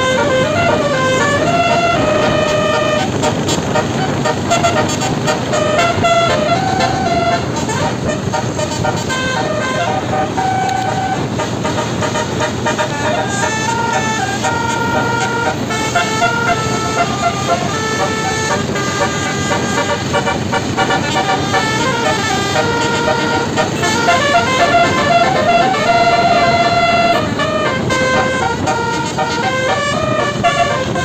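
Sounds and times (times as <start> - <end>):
bus horn playing melody: 0.0 - 31.0.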